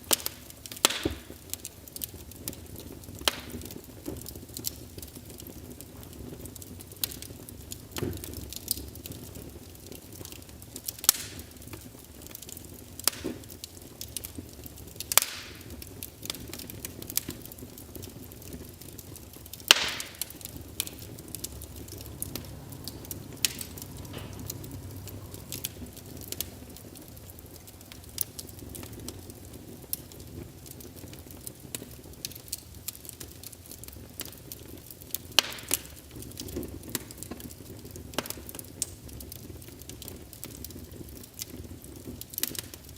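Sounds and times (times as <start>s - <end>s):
flames rushing: 0.0s - 42.9s
wood crackling and popping: 0.0s - 42.9s.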